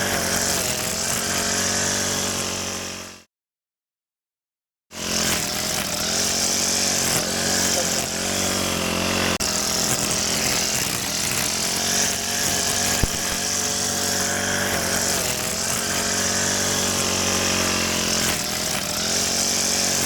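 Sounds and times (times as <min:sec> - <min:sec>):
grass cutter engine running: 0:00.0 - 0:03.3, 0:05.0 - 0:20.0.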